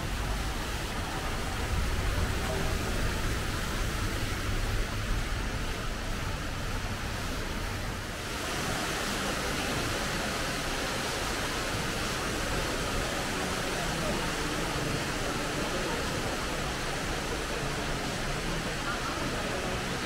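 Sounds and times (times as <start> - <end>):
artificial waterfall splashing: 0.0 - 20.0.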